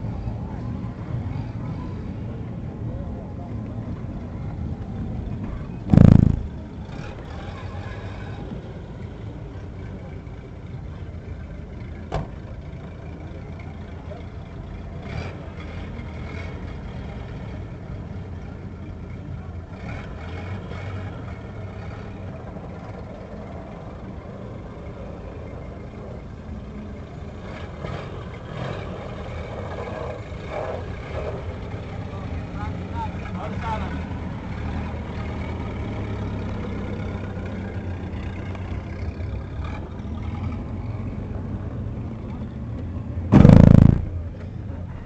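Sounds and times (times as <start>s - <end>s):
faint voices outside: 0.0s - 45.0s.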